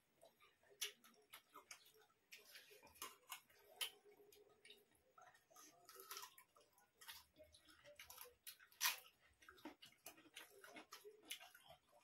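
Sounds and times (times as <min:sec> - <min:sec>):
people eating by hand: 0:00.0 - 0:12.0.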